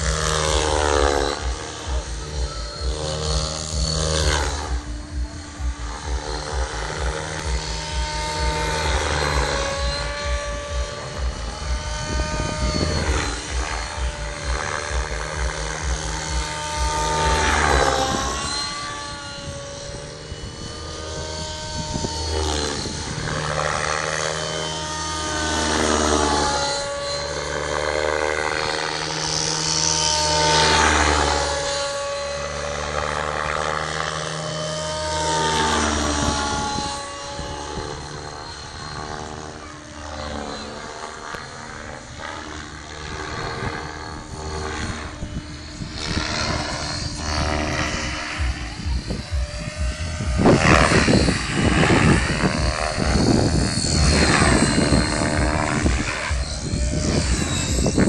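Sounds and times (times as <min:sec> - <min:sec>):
model helicopter rotor whine: 0:00.0 - 0:58.0
rotor blade whoosh: 0:00.0 - 0:58.0.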